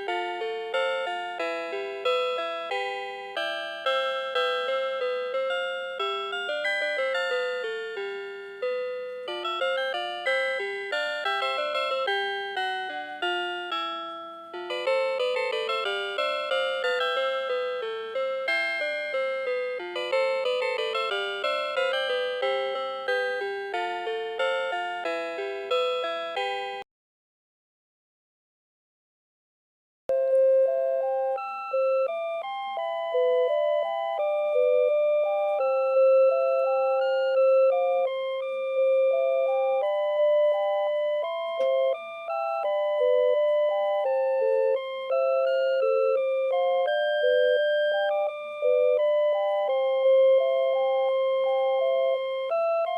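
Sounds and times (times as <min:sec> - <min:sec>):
electronic alarm clock melody: 0:00.0 - 0:26.8, 0:30.1 - 0:52.9.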